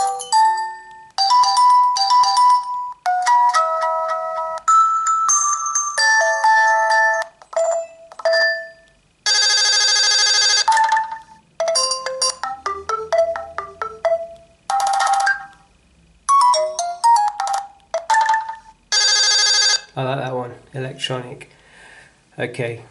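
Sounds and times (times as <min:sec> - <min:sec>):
phone ringtone melodies and chimes: 0:00.0 - 0:15.7, 0:16.3 - 0:19.9.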